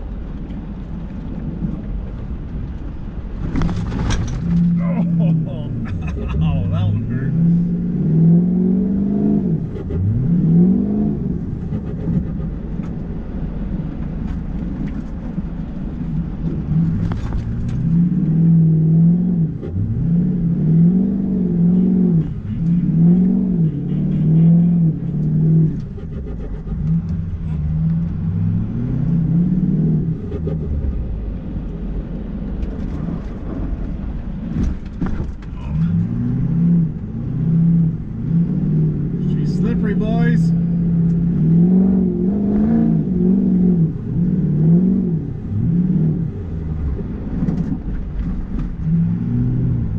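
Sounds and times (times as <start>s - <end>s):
diesel engine revving: 3.0s - 13.9s, 15.4s - 49.9s.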